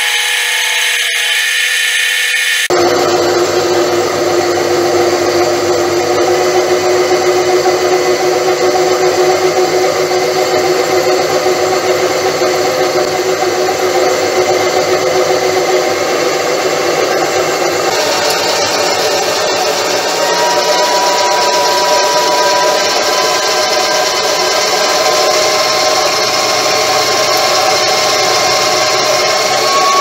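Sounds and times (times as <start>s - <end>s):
metal lathe machine hum: 0.0s - 30.0s.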